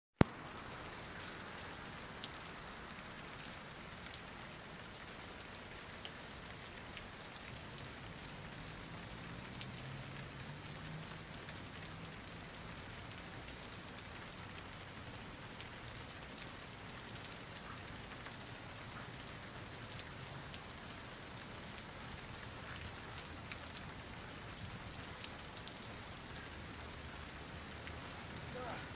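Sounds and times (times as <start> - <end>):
rain hissing: 0.2 - 28.9
raindrops ticking: 0.2 - 28.9.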